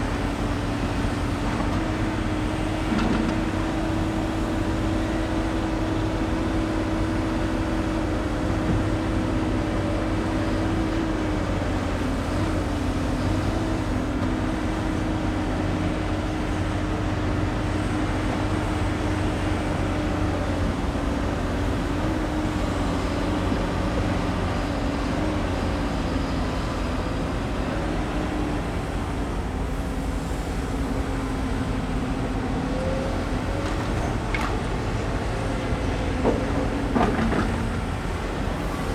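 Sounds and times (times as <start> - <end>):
excavator diesel engines droning: 0.0 - 38.9.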